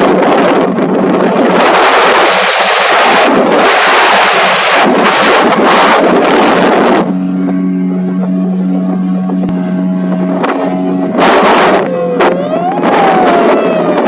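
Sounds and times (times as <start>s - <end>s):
boat engine hum: 0.0s - 14.0s
water rushing: 0.0s - 14.0s
wind on microphone: 0.0s - 14.0s.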